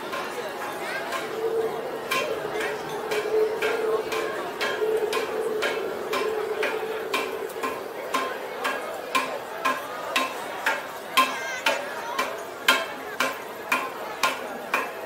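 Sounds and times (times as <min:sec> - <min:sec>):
crowd hubbub: 0:00.0 - 0:15.0
rhythmic knocks with ringing tone: 0:00.0 - 0:15.0.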